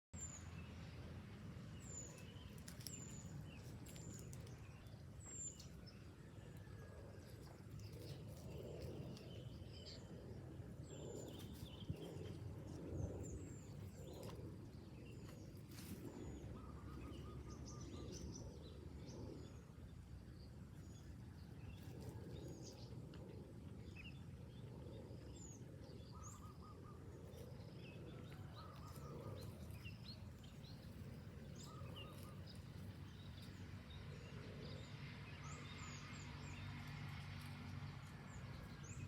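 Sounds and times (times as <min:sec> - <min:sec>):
small birds chirping: 0:00.2 - 0:06.2, 0:07.2 - 0:39.0.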